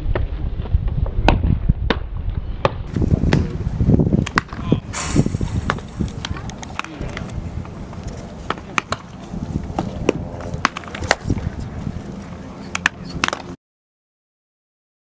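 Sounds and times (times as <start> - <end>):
low rumble: 0.0 - 13.6.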